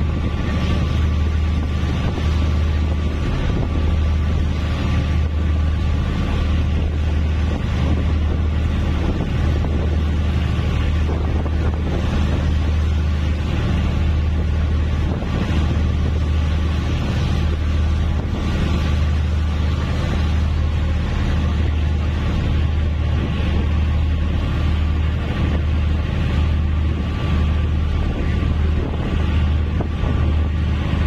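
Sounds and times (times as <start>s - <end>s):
rush of the sea: 0.0s - 31.0s
ship engine drone: 0.0s - 31.0s
wind on microphone: 0.0s - 31.0s.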